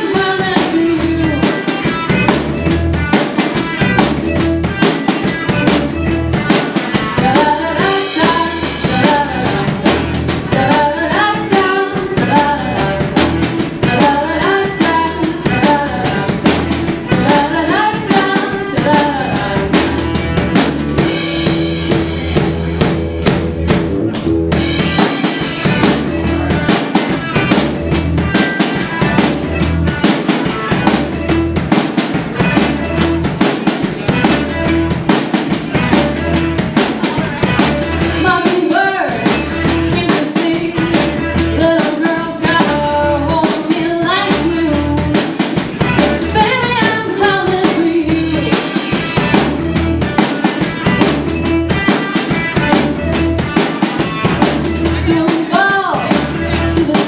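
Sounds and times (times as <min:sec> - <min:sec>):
violin melody: 0:00.0 - 0:44.7, 0:45.6 - 0:57.0
rock band playing: 0:00.0 - 0:57.0.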